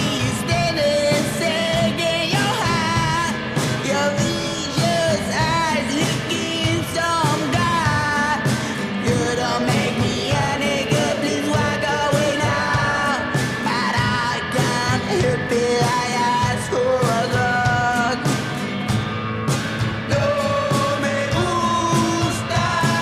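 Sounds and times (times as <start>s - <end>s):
garage rock song: 0.0s - 23.0s.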